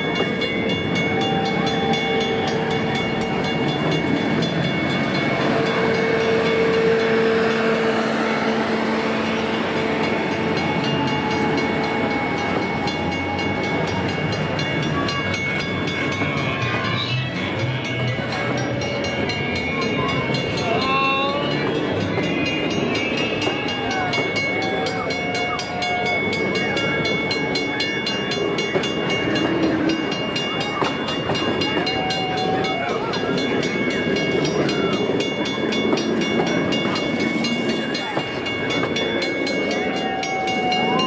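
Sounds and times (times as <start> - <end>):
crossing signal bell ringing: 0.0 - 41.0
train cars rumbling and rattling: 0.0 - 41.0.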